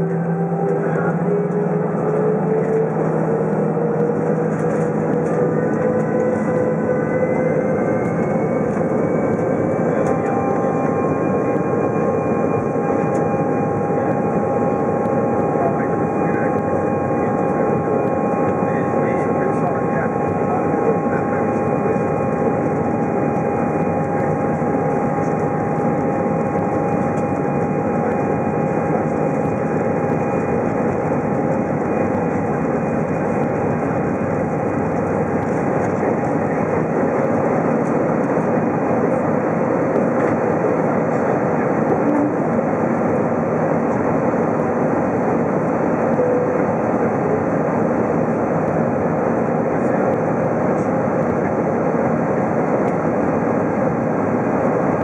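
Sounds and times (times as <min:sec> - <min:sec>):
jet engines roaring in cabin: 0:00.0 - 0:55.0.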